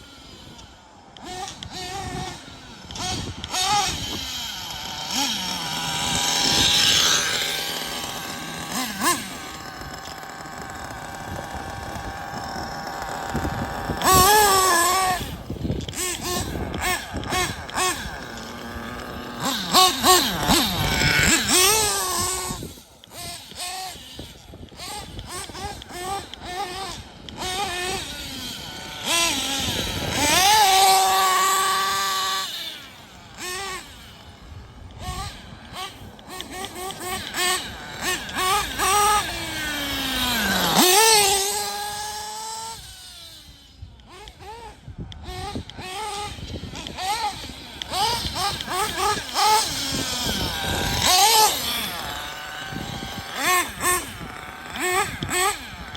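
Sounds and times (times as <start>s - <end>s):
model car nitro engine revving: 0.0s - 55.9s.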